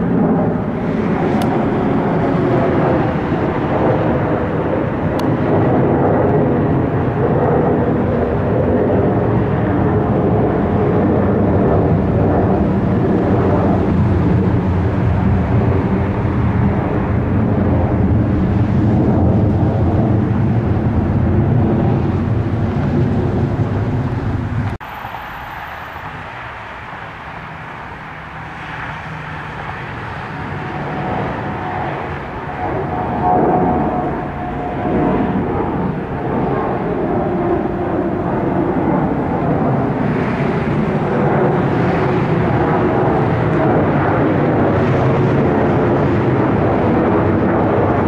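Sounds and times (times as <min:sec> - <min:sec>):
airliner engines rumbling: 0:00.0 - 0:48.0
quieter aircraft engine: 0:00.0 - 0:48.0.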